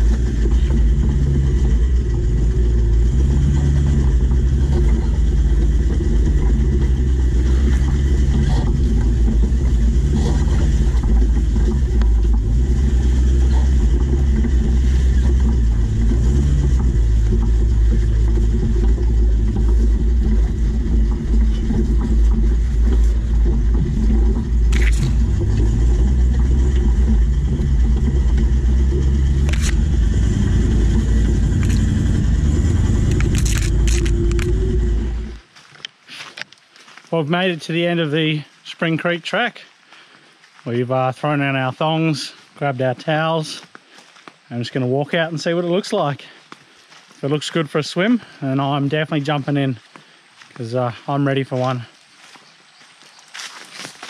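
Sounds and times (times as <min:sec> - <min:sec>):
off-road vehicle engine revving: 0:00.0 - 0:35.6, 0:40.5 - 0:52.4.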